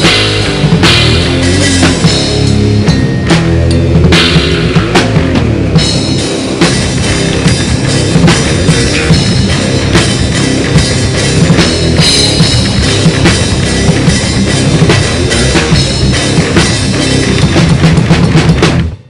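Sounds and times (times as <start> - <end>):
drum kit beat: 0.0 - 19.0
rock band playing: 0.0 - 19.0.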